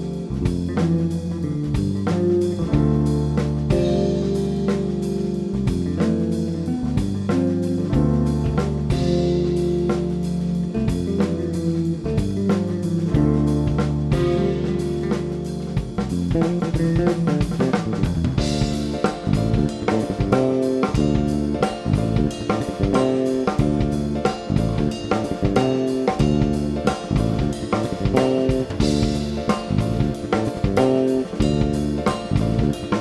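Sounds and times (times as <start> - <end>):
drum kit beat: 0.0 - 33.0
electric bass line: 0.0 - 33.0.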